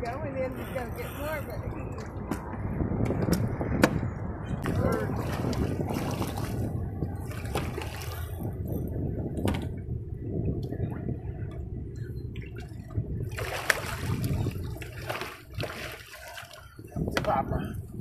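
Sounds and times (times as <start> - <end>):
water sloshing against boat: 0.0 - 18.0.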